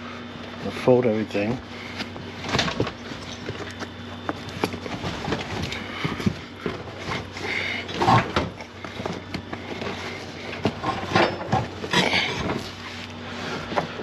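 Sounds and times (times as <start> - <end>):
carpet rustling and scraping: 1.4 - 14.0.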